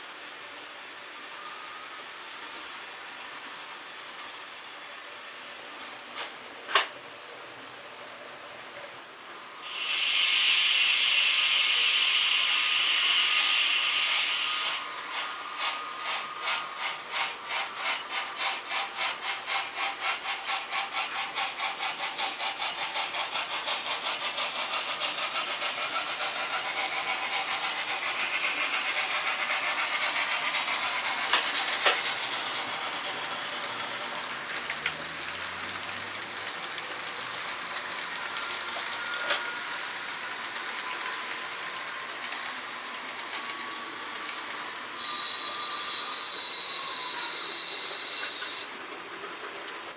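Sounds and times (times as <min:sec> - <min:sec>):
model locomotive steam hiss: 0:08.2 - 0:49.9
steam locomotive exhaust chuffs: 0:09.6 - 0:49.9.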